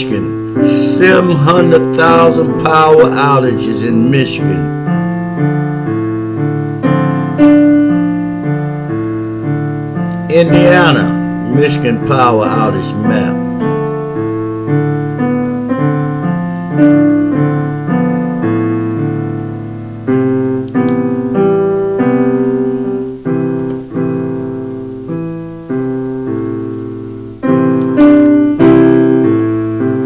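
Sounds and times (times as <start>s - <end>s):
piano chords and notes: 0.0s - 30.0s.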